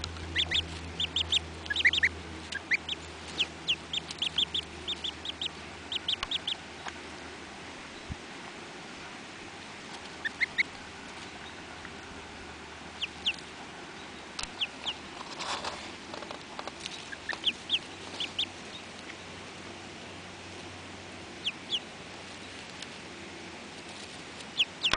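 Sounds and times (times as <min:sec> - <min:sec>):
ducklings and goslings peeping: 0:00.0 - 0:08.2, 0:09.6 - 0:24.9.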